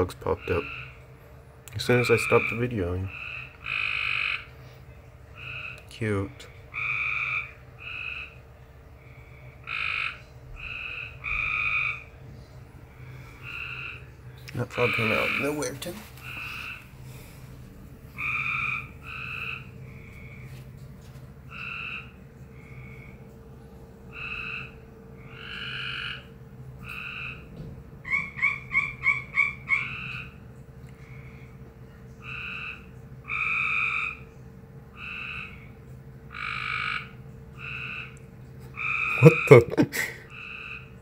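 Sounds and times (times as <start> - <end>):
frog calling: 0.0 - 1.1, 1.7 - 4.7, 5.3 - 12.2, 13.0 - 17.4, 18.1 - 20.7, 21.5 - 23.3, 24.1 - 30.4, 32.1 - 41.0.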